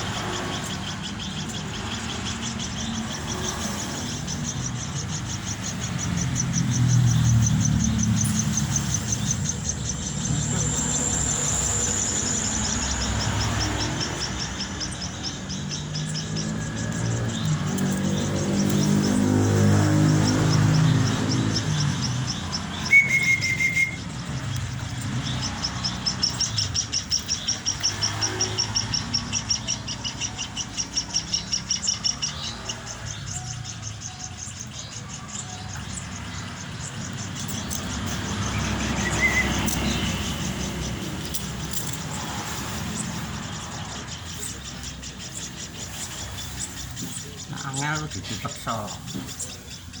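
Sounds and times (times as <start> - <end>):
chicks begging chirps: 0.0 - 50.0.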